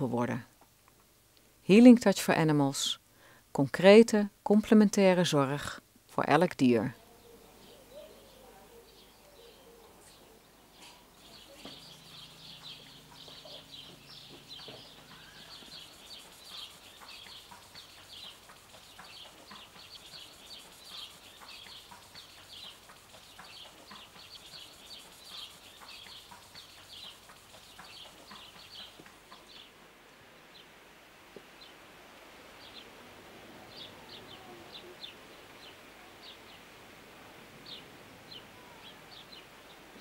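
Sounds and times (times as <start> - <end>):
small birds chirping: 7.0 - 30.8, 31.5 - 40.0.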